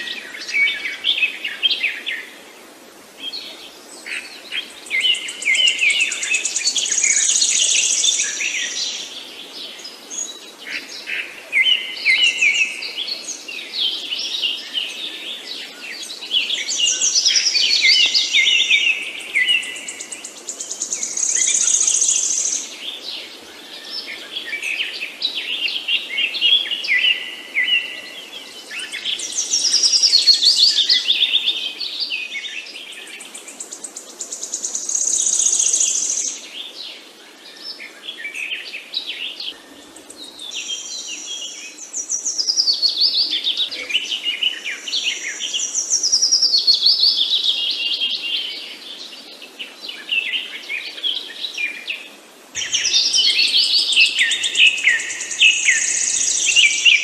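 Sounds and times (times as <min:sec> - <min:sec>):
songbirds chirping and singing: 0:03.2 - 0:57.0.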